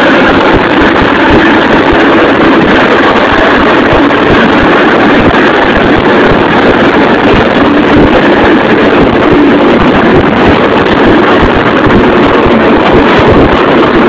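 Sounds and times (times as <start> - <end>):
tractor diesel engine running: 0.0 - 14.0
wind buffeting microphone: 0.0 - 14.0.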